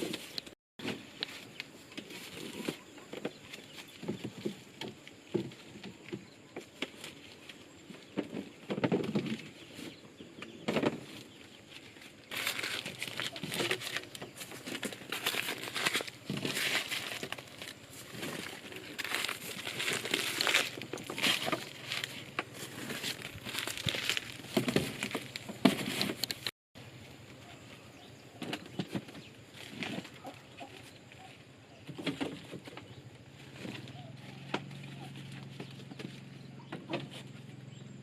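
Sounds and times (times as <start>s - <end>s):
rustling and crinkling: 0.0s - 37.6s.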